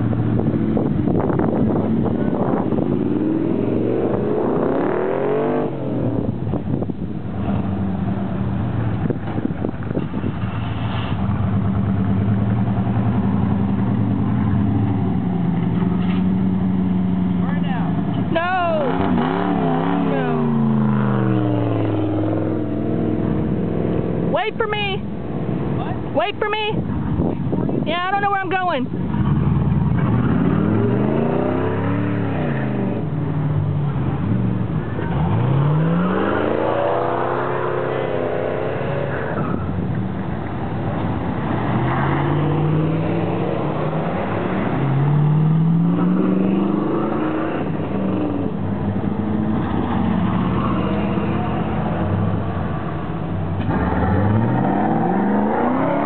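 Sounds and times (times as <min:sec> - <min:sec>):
car engines accelerating past: 0:00.0 - 0:24.4, 0:29.0 - 0:56.0.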